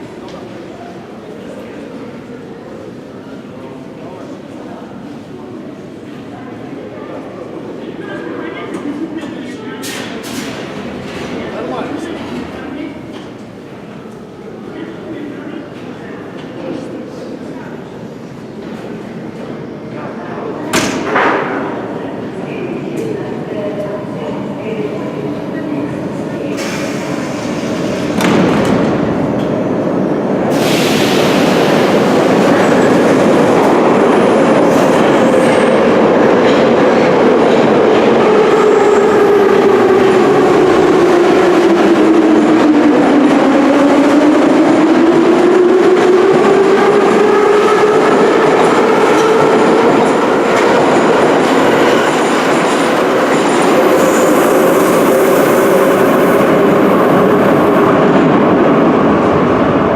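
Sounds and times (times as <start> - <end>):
subway train rumbling on rails: 0.0 - 59.9.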